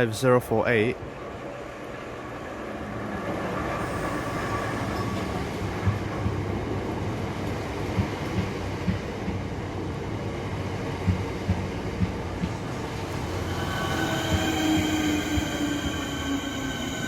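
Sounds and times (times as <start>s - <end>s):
train rumble: 1.0s - 17.0s.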